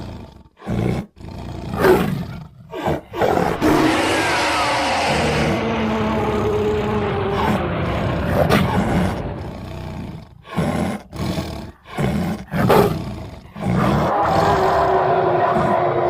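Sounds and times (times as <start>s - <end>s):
monster roars: 0.7s - 16.0s.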